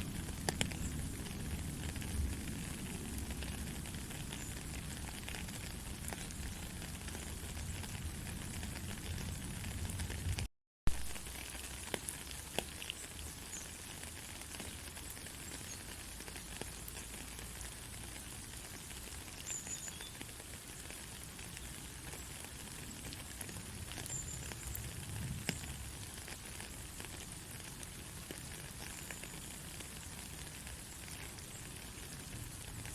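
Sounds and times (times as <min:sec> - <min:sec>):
gentle rain falling: 0:00.0 - 0:32.9
raindrop ticks: 0:00.0 - 0:32.9.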